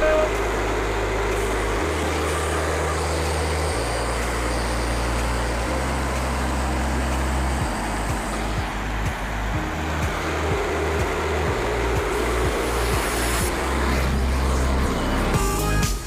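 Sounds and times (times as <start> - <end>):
background music with bass line: 0.0 - 16.0
band sawmill running: 0.0 - 16.0.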